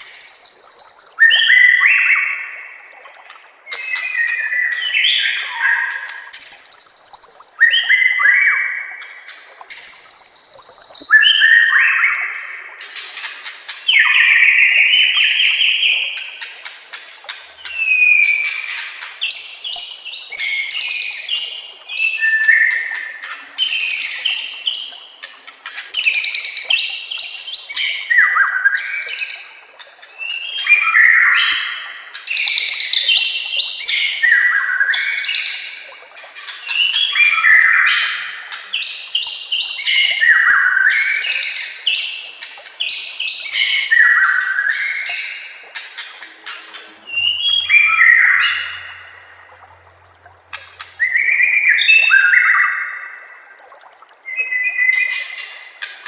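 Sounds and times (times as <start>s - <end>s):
songbird singing: 0.0s - 53.6s, 54.2s - 56.0s.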